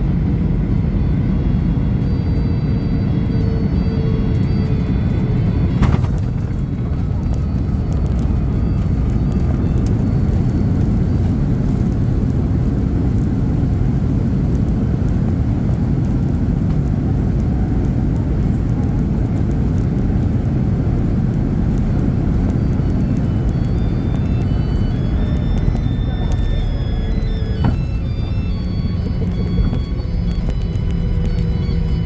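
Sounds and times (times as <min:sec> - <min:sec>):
low rumble in airliner cabin: 0:00.0 - 0:32.0.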